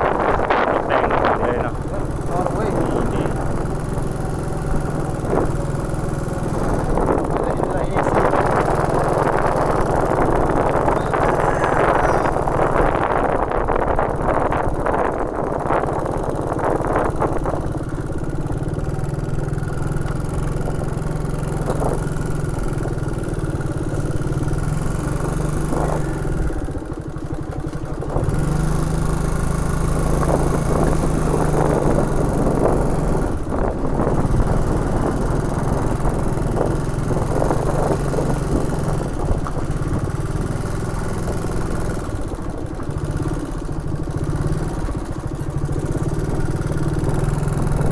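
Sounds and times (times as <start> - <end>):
motorbike engine running: 0.0 - 47.9
road and wind noise: 0.0 - 47.9.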